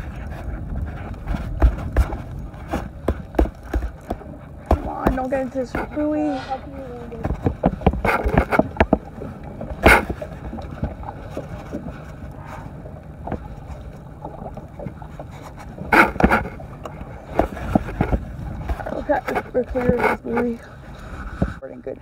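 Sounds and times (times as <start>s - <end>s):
wind and water rumble: 0.0s - 22.0s.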